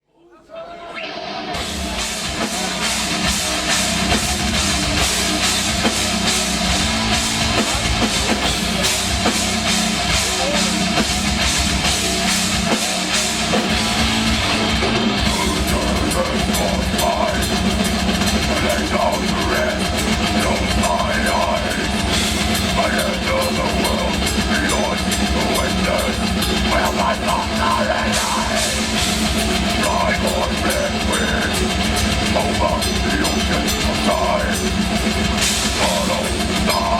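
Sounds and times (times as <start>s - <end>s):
heavy metal band playing live: 1.0s - 36.9s.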